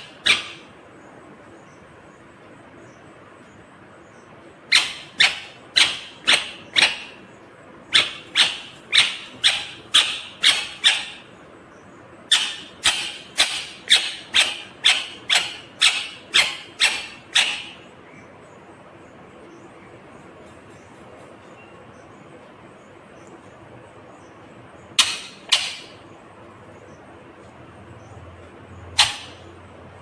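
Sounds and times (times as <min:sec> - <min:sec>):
parakeet calling: 0:00.0 - 0:02.2, 0:04.0 - 0:20.1, 0:24.1 - 0:30.0.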